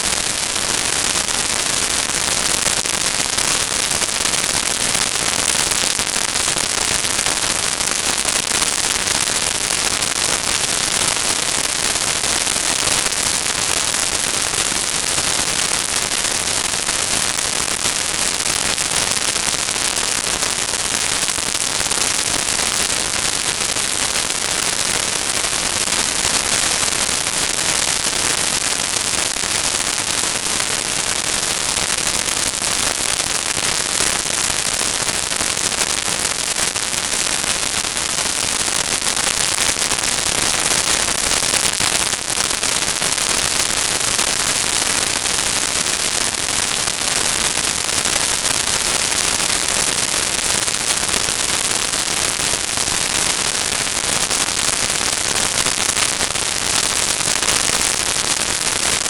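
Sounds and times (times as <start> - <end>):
crackling static hiss: 0.0 - 59.0.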